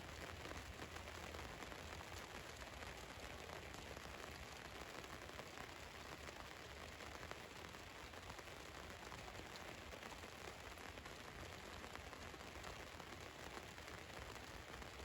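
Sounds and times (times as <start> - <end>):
rain on a van roof: 0.0 - 15.0.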